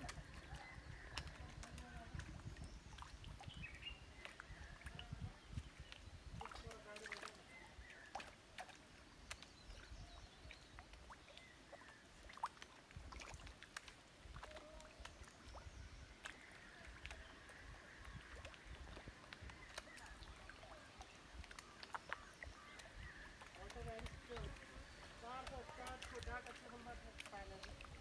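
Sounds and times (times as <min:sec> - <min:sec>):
faint pond water: 0:00.0 - 0:28.0
small clicks and splashes: 0:00.0 - 0:28.0.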